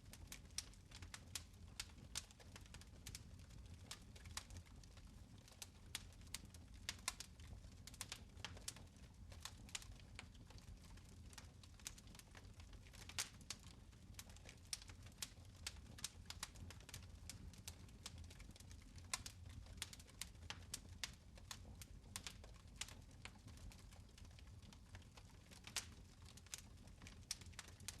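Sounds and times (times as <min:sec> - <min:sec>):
fire crackling in fireplace: 0:00.0 - 0:28.0.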